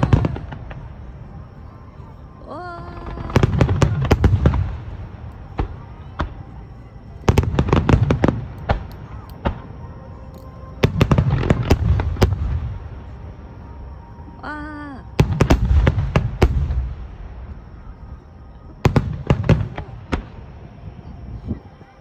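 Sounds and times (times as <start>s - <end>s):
fireworks bangs: 0.0s - 1.5s, 2.9s - 13.9s, 15.0s - 18.2s, 18.8s - 21.6s.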